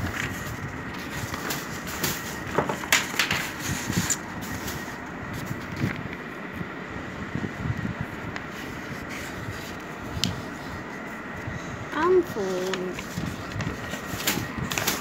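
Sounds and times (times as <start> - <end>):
paper rustling and creasing: 0.0 - 6.4, 8.0 - 11.5, 12.1 - 15.0.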